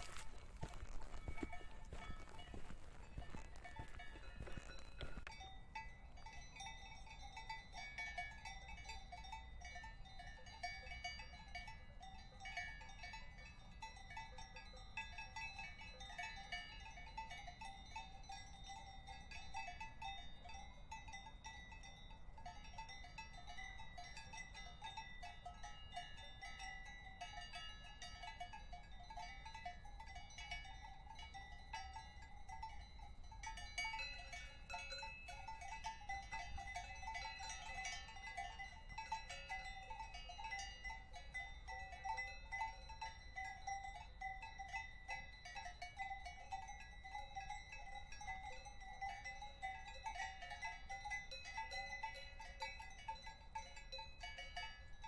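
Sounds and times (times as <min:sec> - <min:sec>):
cowbells clanking: 0:00.0 - 0:55.0.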